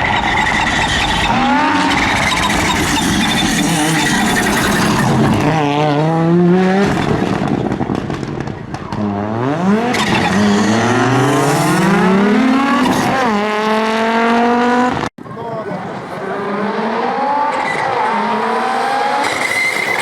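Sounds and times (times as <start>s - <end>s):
rally car engine revving: 0.0s - 15.1s, 15.8s - 20.0s.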